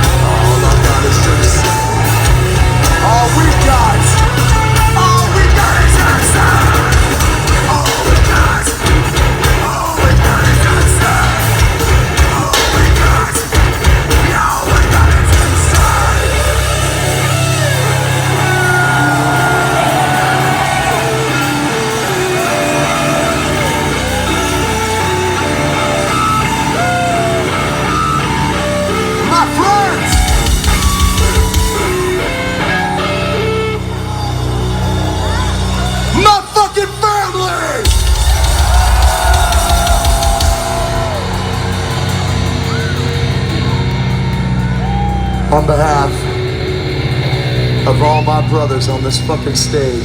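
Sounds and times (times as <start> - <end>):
amplified guitars: 0.0 - 50.0
heavy bass: 0.0 - 50.0
heavy metal band playing live: 0.0 - 50.0
pounding low drums: 0.0 - 50.0.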